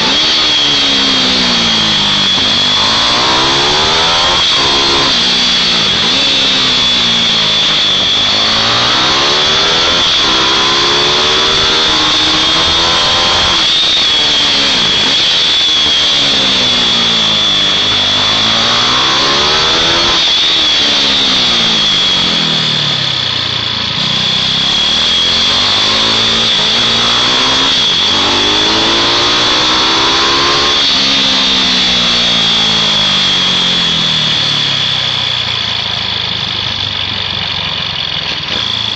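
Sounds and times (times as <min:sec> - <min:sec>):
mini-bike engines buzzing: 0:00.0 - 0:38.9.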